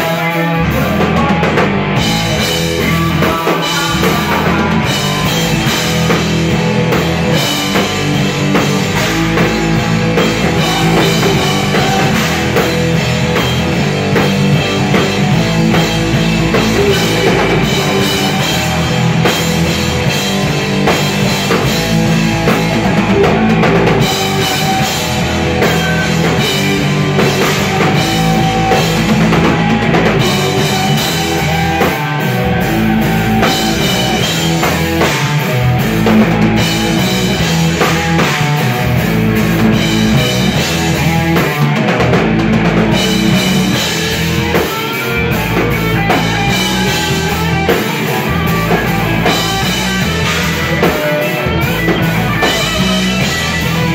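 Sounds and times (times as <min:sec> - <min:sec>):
drum kit: 0:00.0 - 0:53.9
electric guitars: 0:00.0 - 0:53.9
live rock band playing: 0:00.0 - 0:53.9.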